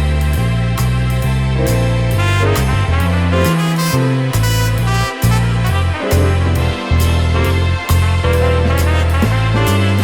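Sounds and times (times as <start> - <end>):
instrumental jazz music: 0.0 - 10.0.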